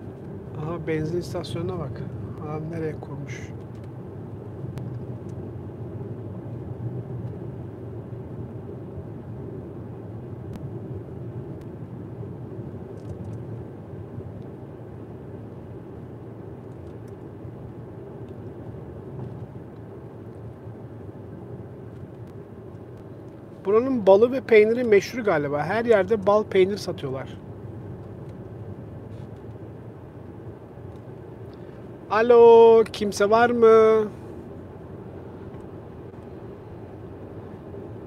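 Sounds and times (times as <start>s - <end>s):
car driving cabin hum: 0.0s - 38.0s
tyres humming on asphalt: 0.0s - 38.0s.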